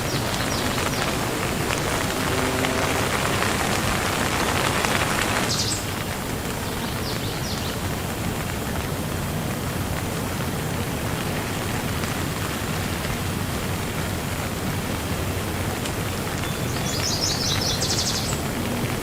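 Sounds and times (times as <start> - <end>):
steady rain hissing: 0.0 - 19.0.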